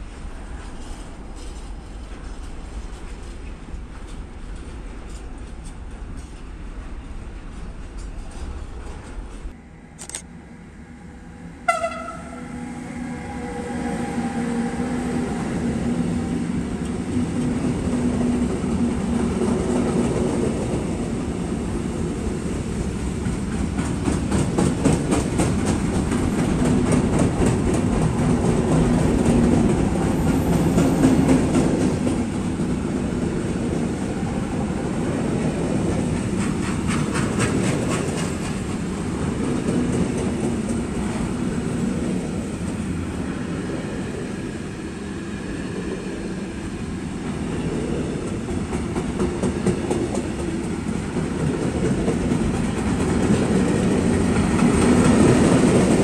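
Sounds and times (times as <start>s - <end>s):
train wheels rumbling on rail: 0.0s - 10.2s, 11.6s - 56.0s.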